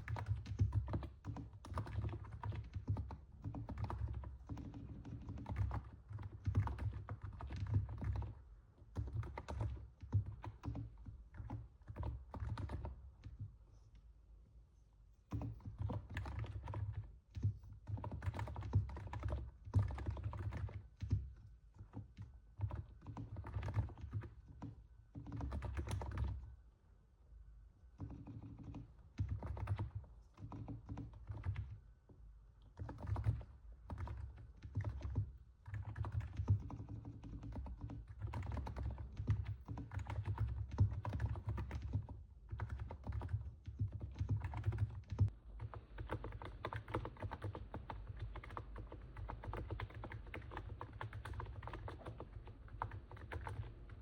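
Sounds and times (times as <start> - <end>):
soft muted keyboard typing: 0.0 - 14.3, 15.0 - 26.6, 27.8 - 54.0.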